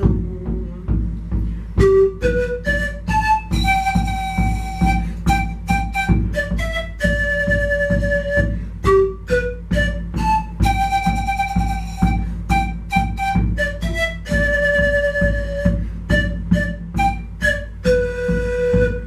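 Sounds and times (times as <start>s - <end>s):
panpipe melody: 0.0s - 1.0s, 1.8s - 19.0s.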